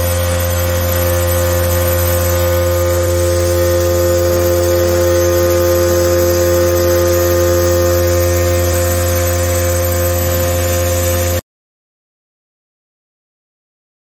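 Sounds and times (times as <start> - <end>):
vibrating motors loud hum and buzz: 0.0 - 11.4.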